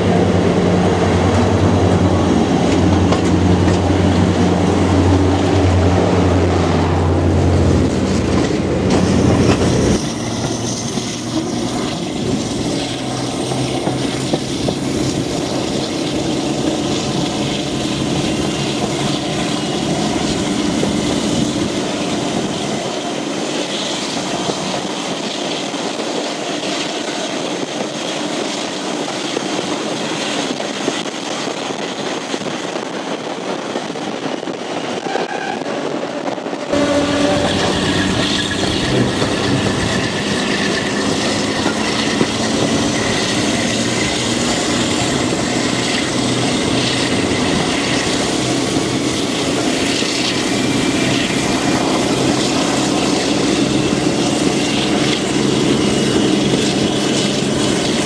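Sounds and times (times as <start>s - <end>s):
clickety-clack of wheels: 0.0s - 6.2s, 7.7s - 58.0s
diesel locomotive engine drone: 0.0s - 58.0s
train wheels rumbling on rails: 0.0s - 58.0s.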